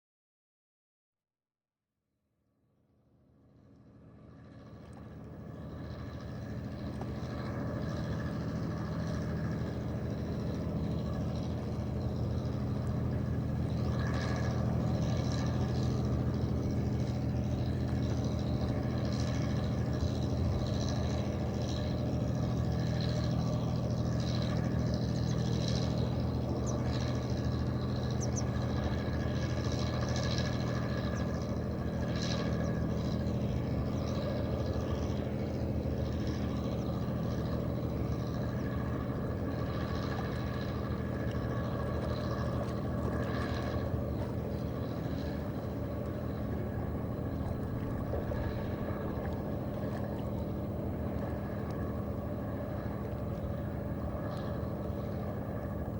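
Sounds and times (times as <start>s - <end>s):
engine idling: 4.7s - 55.9s.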